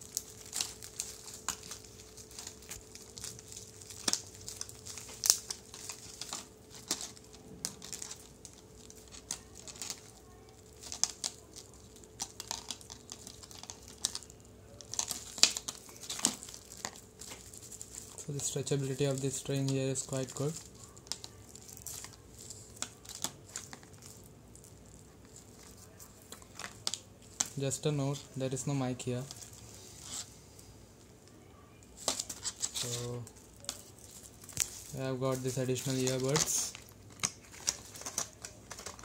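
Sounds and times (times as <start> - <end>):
plastic packaging crinkling: 0.0 - 39.0.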